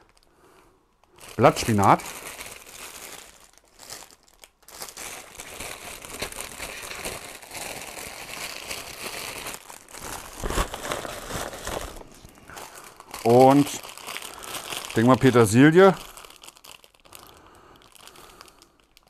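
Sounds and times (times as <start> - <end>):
plastic bag crinkling: 0.0 - 19.0
paper bag rustling: 1.4 - 16.8.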